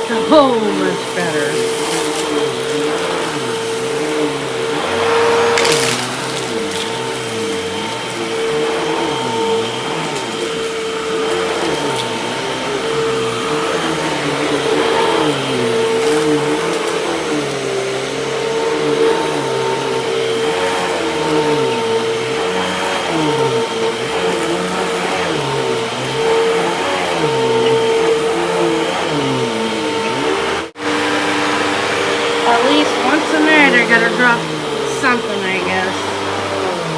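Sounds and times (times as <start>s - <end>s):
vacuum cleaner motor whine: 0.0s - 36.9s.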